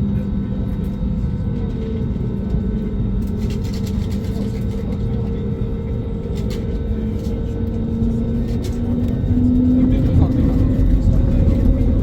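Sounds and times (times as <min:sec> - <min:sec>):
jet engine and airframe rumble: 0:00.0 - 0:12.0.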